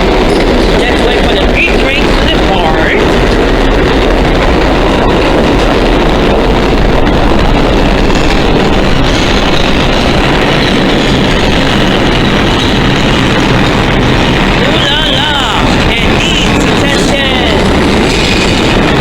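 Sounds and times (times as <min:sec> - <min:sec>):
subway train rumble: 0:00.0 - 0:19.0.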